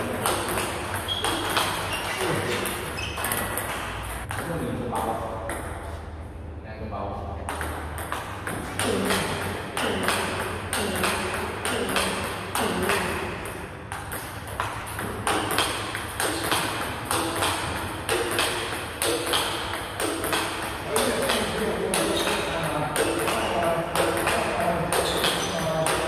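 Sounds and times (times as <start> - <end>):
table tennis ball clicking off bats: 0.0 - 5.6, 7.5 - 26.0
ball bouncing on table: 0.0 - 5.8, 7.4 - 26.0.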